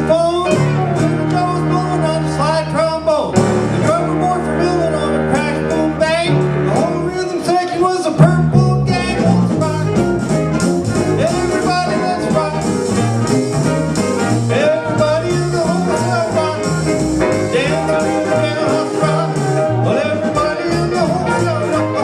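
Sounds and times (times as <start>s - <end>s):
instrumental rock and roll band: 0.0s - 22.0s.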